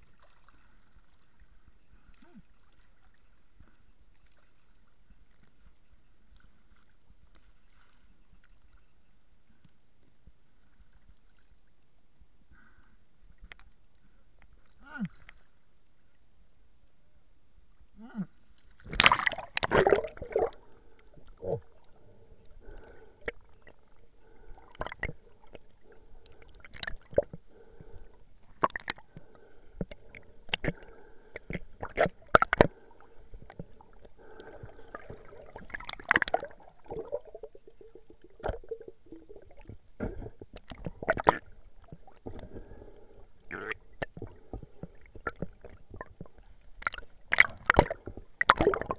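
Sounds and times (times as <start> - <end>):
muffled underwater movement: 0.0 - 48.9.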